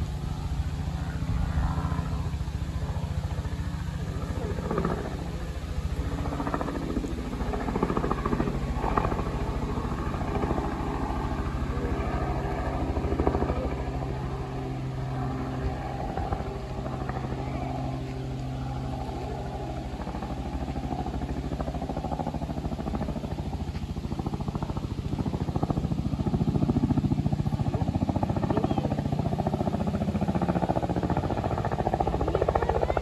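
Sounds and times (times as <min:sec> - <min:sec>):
helicopter drone: 0:00.0 - 0:33.0.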